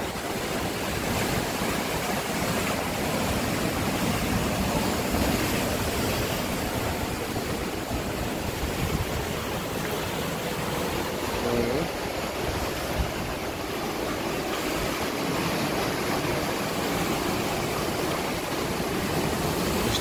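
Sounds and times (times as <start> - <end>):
waves breaking on rocks: 0.0 - 20.0.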